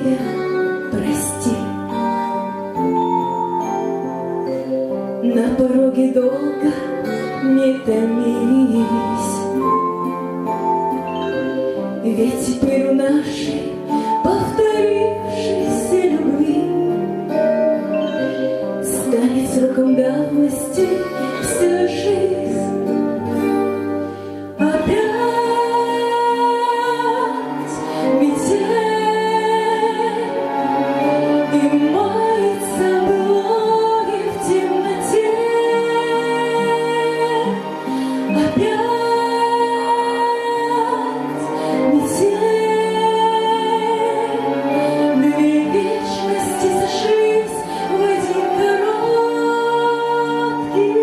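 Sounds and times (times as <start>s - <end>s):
instrumental backing track: 0.0s - 51.0s
musical accompaniment: 0.0s - 51.0s.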